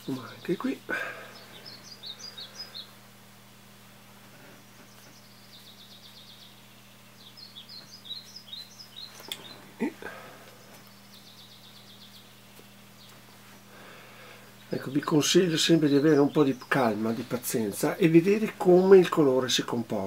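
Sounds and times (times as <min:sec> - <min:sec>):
small bird chirping: 0:00.0 - 0:03.0, 0:04.4 - 0:18.8
steady low hum: 0:00.0 - 0:20.0.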